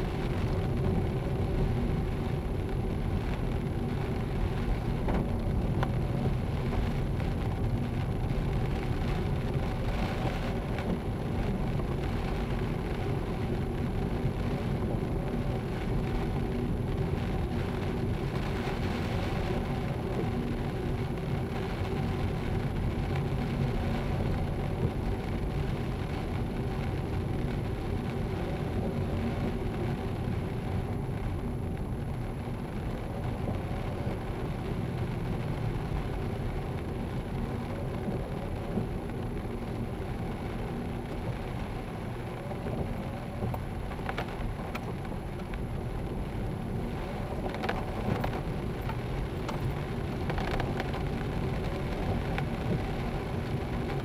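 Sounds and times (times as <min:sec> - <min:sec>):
engine and tyre rumble: 0:00.0 - 0:54.0
rain spatter on windscreen: 0:00.0 - 0:54.0.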